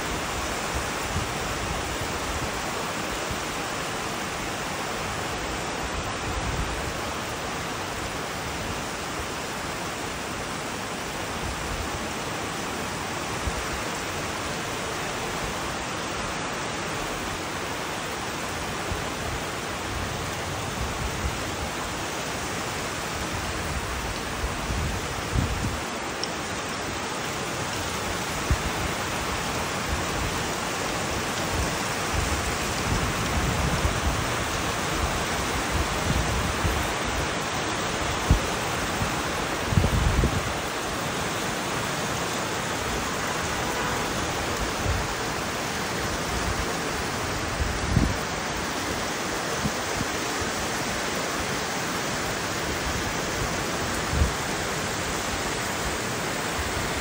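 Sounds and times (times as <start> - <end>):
heavy rain on trees: 0.0 - 57.0.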